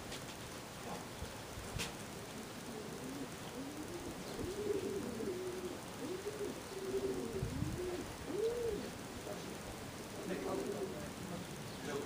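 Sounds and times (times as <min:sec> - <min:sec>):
pigeons cooing: 0:02.2 - 0:12.0.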